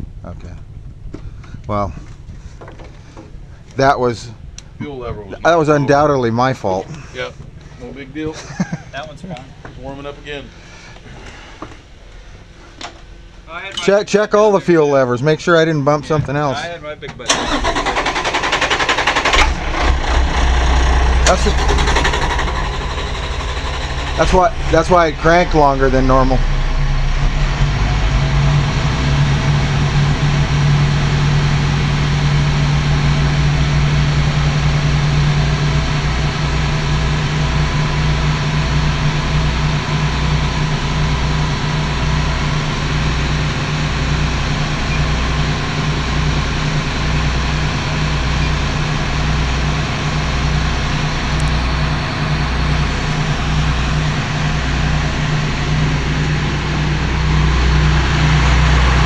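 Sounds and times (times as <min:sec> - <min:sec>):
diesel engines idling drone: 0:00.0 - 0:59.0
low engine throb: 0:00.0 - 0:59.0.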